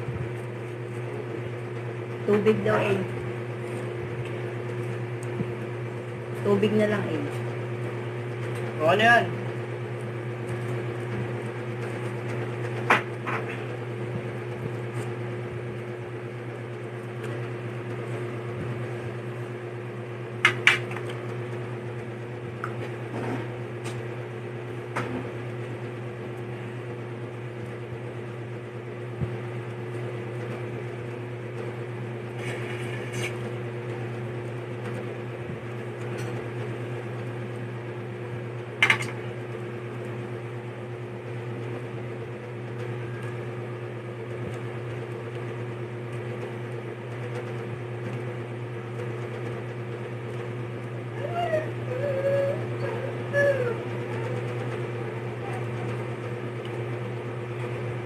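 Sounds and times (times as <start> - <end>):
electric hum of appliance: 0.0 - 58.0.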